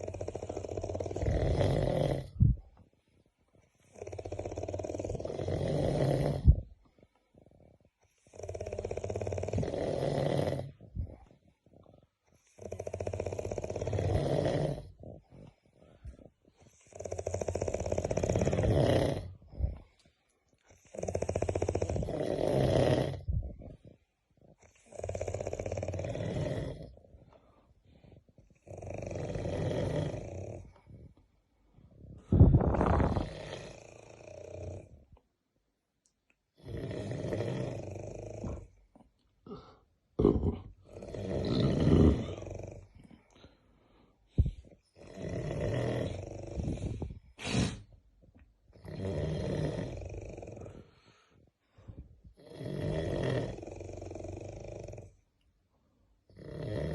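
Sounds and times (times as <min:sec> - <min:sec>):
heavy snoring rattle: 0:00.0 - 0:02.8, 0:03.6 - 0:20.0, 0:20.7 - 0:27.5, 0:28.1 - 0:31.1, 0:32.0 - 0:35.1, 0:36.6 - 0:38.8, 0:39.5 - 0:43.3, 0:44.3 - 0:47.9, 0:48.8 - 0:55.3, 0:56.3 - 0:56.9.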